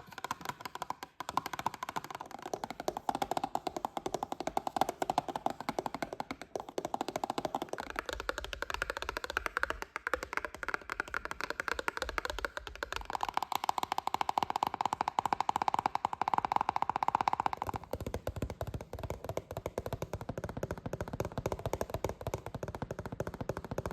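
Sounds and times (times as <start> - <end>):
fast tapping on cardboard boxes: 0.0 - 23.9.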